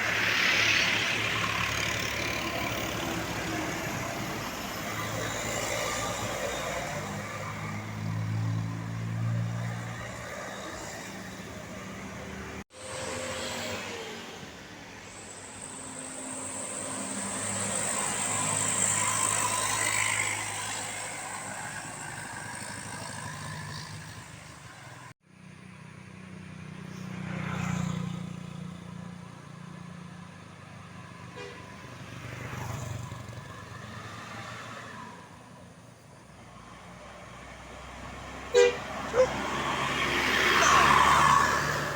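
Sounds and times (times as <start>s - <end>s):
buses passing under load: 0.0s - 41.9s.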